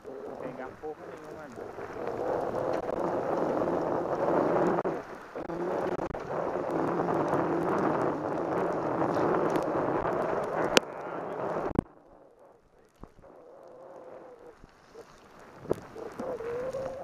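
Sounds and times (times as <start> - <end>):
bicycle riding through rain: 0.0 - 17.0
wind buffeting microphone: 0.0 - 17.0.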